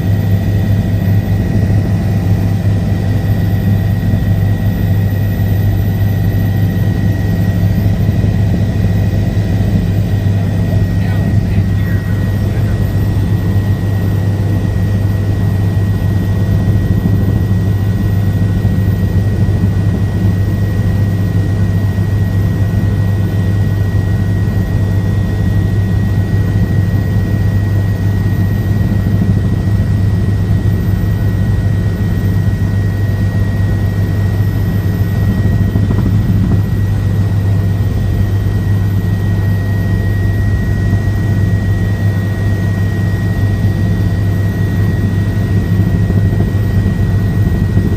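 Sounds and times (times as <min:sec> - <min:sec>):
helicopter engine and rotors: 0:00.0 - 0:47.9
thin high whine: 0:00.0 - 0:47.9.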